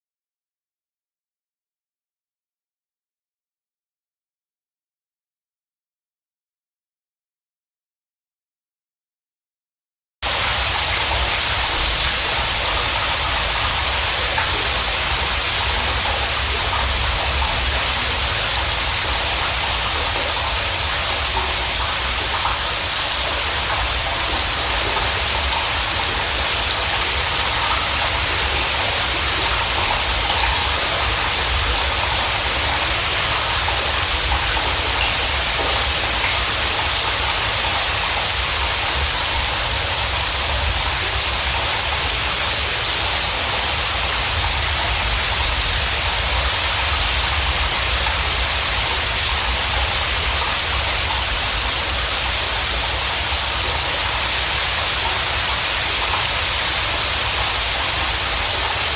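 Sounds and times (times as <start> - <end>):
heavy rain: 10.2 - 58.9.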